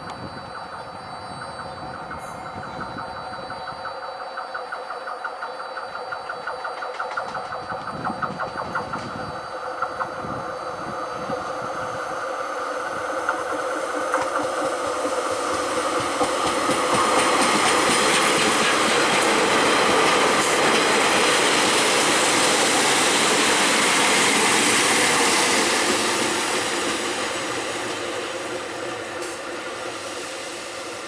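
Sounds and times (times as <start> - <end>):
diesel train engine drone: 0.0 - 31.0.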